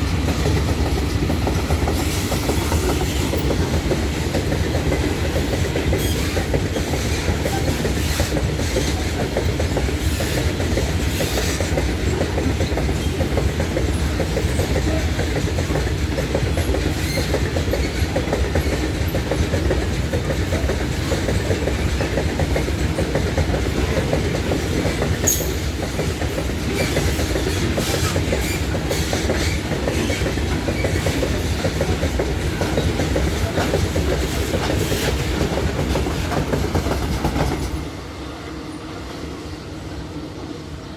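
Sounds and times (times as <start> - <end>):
train wheels clicking over rail joints: 0.0 - 37.9
freight train rumble: 0.0 - 40.9.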